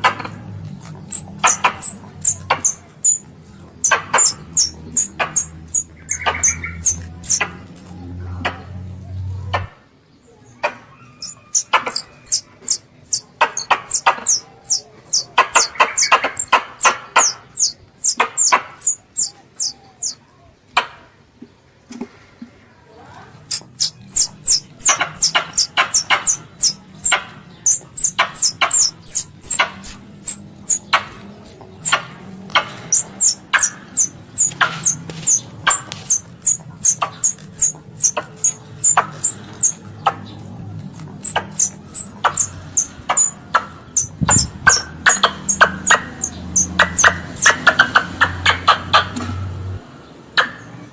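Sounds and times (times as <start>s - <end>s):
squirrel lure call chattering: 0.0s - 7.8s, 10.6s - 20.2s, 23.4s - 49.2s.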